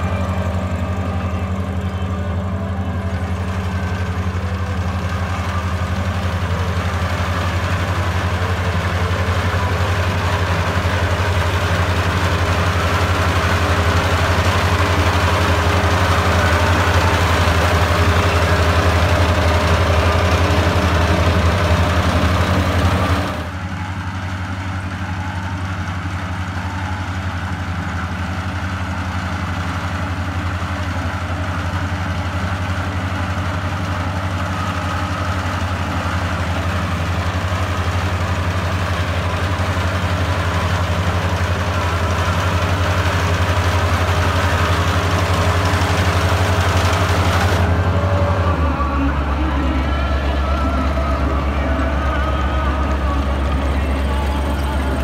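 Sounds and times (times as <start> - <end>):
busy mechanical noise: 0.0 - 55.0
combine harvester engine drone: 0.0 - 55.0.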